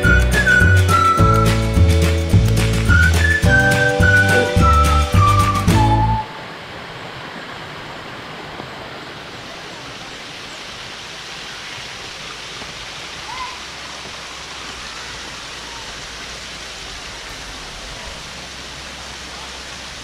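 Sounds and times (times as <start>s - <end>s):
waterfall rushing over rock: 2.0s - 20.0s.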